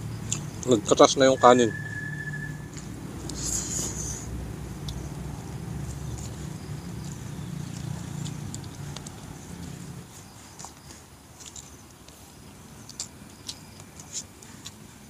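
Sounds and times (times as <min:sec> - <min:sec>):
person chewing and eating: 0:00.0 - 0:00.8, 0:02.2 - 0:15.0
vehicle engine rumble: 0:00.0 - 0:15.0.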